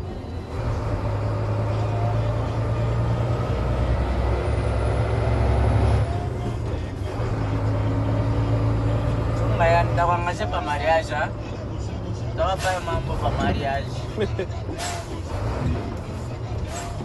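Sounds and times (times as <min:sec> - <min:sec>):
diesel truck engine under load: 0:00.0 - 0:17.0.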